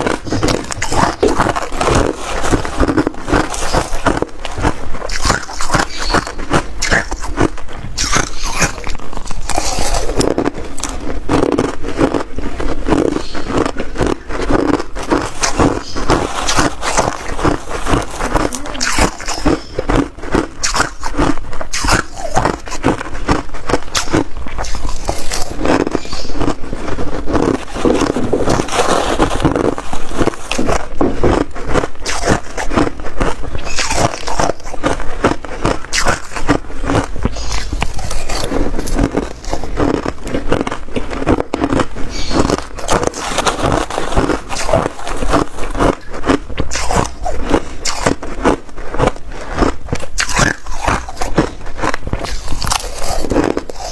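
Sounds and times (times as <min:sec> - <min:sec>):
person crunching ice: 0:00.0 - 0:53.9.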